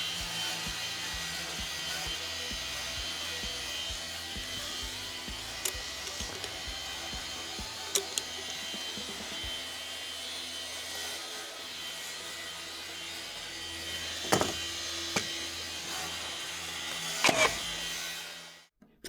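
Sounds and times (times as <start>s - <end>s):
power tool running on timber: 0.0s - 18.7s.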